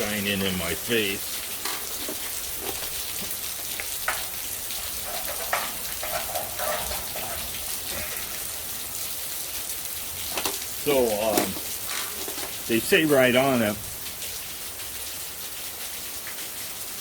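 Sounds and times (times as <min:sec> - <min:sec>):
steady rain pattering: 0:00.0 - 0:17.0.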